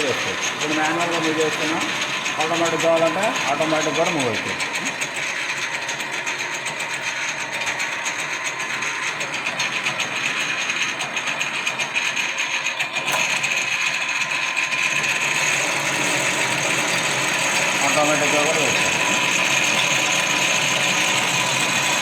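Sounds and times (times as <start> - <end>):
lathe whirring: 0.0 - 22.0.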